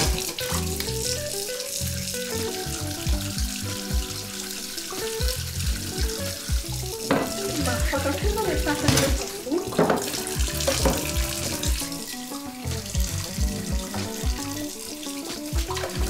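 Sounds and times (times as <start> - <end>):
background music with beat: 0.0 - 16.0
tap water running into sink: 0.0 - 16.0.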